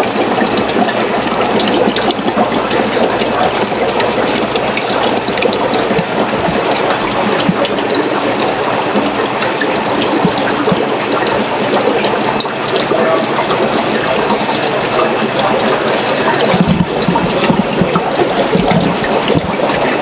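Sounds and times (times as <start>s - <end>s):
water drips: 0.0s - 20.0s
water rushing from aquarium filters: 0.0s - 20.0s.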